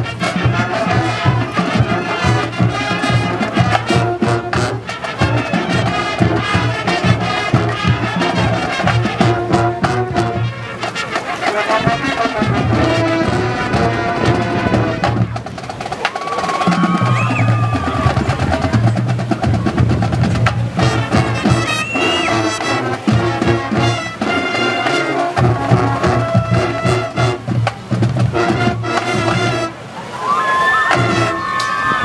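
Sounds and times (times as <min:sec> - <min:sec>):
sliding horn notes: 0:00.0 - 0:16.0, 0:16.6 - 0:32.0
band playing rhythmic music: 0:00.0 - 0:30.0, 0:30.8 - 0:32.0.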